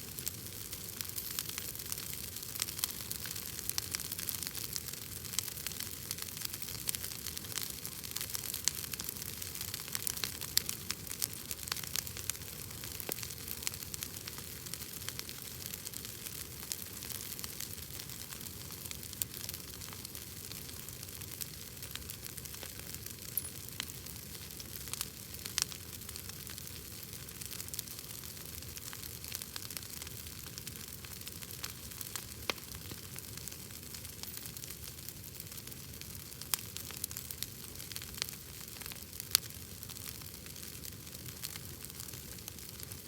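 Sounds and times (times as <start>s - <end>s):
wood crackling in fire: 0.0s - 43.0s.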